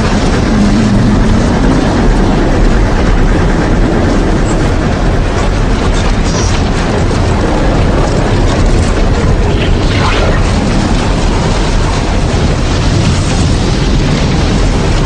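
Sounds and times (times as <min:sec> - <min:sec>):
storm wind and rain roar: 0:00.0 - 0:15.0.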